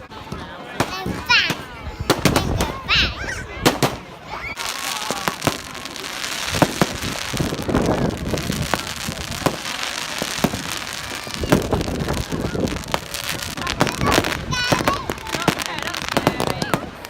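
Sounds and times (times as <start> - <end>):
crowd chatter: 0.0 - 17.0
fireworks bangs: 0.3 - 17.0.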